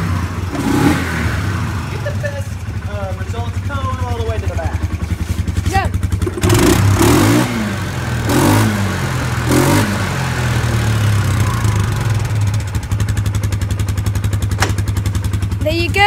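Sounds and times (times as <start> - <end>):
engine revving: 0.0 - 3.2, 4.4 - 16.0
engine idling: 0.0 - 16.0.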